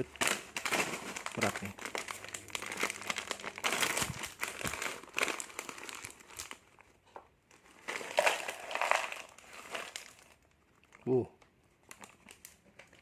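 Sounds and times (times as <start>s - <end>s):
plastic snack packets crinkling: 0.0s - 13.0s.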